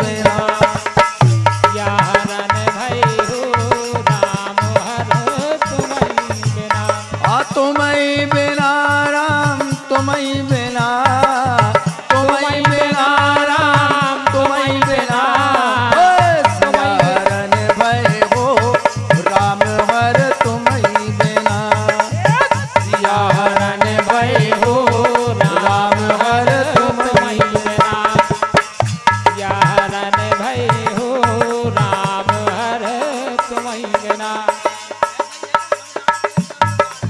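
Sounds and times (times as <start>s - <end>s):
drums beating fast rhythm: 0.0s - 37.0s.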